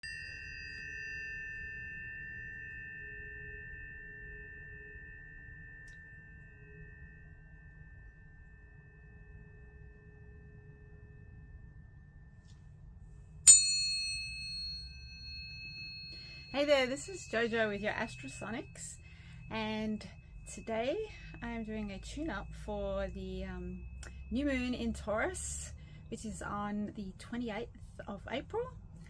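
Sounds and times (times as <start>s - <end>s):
higher tuning fork struck: 0.0s - 12.8s, 13.4s - 27.1s
tuning fork ringing: 0.0s - 28.6s.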